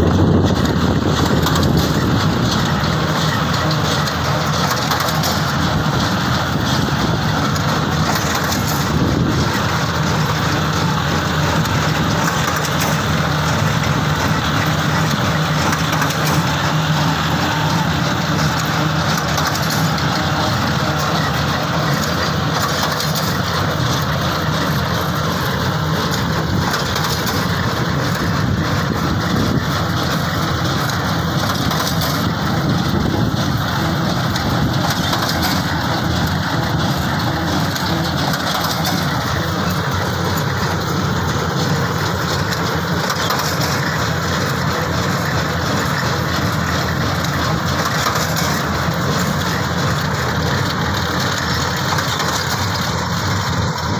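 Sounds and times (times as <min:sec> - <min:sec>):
tractor and baler running: 0:00.0 - 0:53.9.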